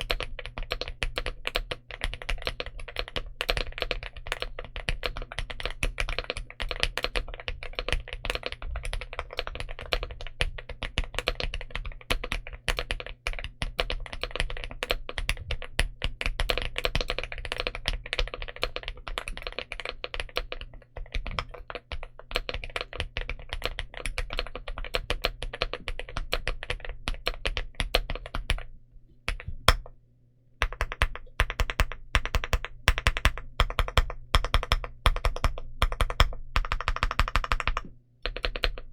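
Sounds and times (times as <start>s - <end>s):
typing on mechanical keyboard: 0.0s - 28.7s, 30.6s - 38.9s.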